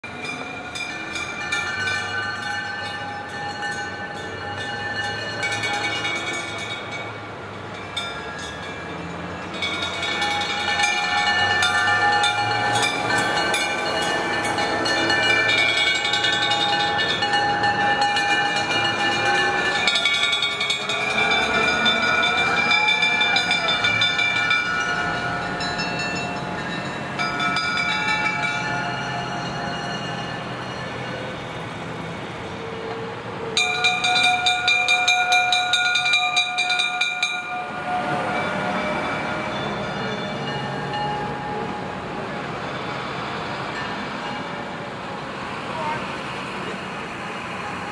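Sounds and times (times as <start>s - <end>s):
fire engine alarm bells ringing: 0.0s - 32.9s, 33.5s - 42.1s
fire engines passing: 0.0s - 47.9s.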